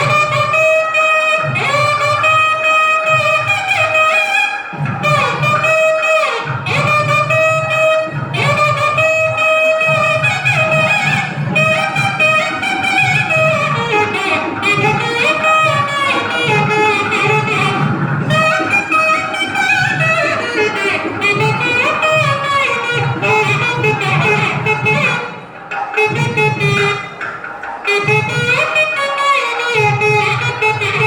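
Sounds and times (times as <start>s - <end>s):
reed wind instrument melody: 0.0s - 31.0s
pulsing low rhythm: 4.6s - 31.0s.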